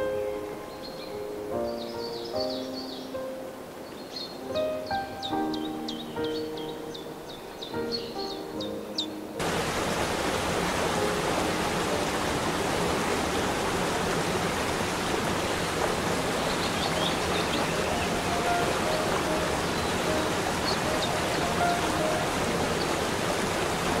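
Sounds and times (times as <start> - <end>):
small waterfall rushing and splashing: 0.0 - 8.1, 8.9 - 24.0.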